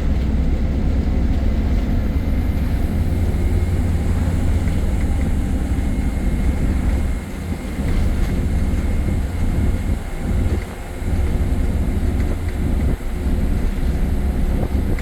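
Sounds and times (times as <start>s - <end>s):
bus interior rumble: 0.0s - 15.0s
high whine: 1.9s - 15.0s.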